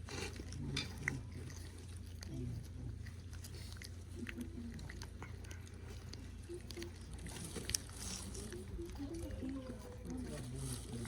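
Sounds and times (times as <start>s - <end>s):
cat chewing food: 0.0s - 11.0s.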